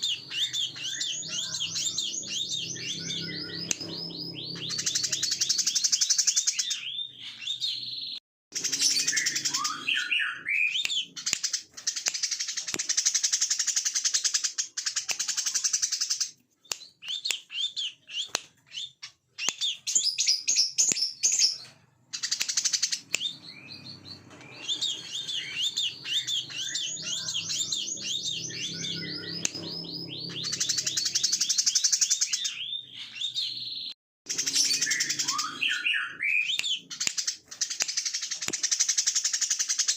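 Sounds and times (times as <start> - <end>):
sunbird buzzy trilling song: 0.0 - 39.9.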